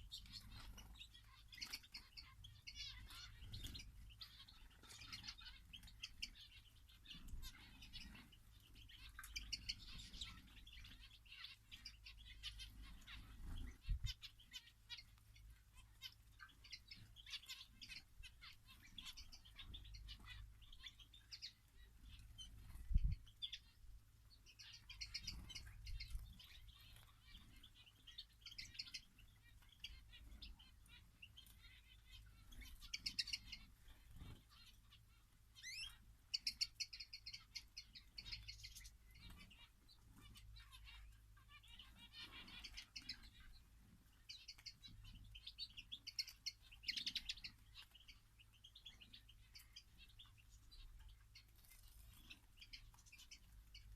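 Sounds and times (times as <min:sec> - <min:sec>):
finches chirping and twittering: 0:00.0 - 0:53.9.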